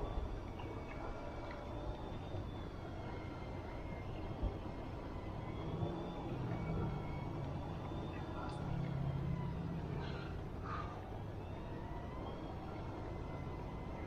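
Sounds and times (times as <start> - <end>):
deep steady hum: 0.0 - 14.0.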